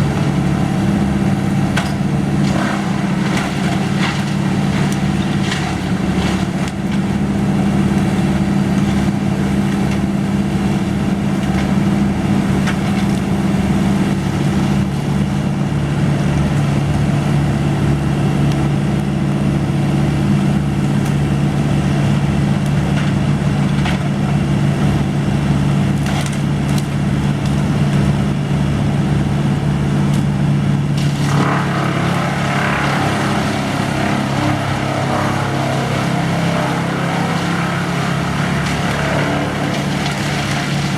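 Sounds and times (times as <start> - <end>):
machinery engine droning: 0.0 - 40.9.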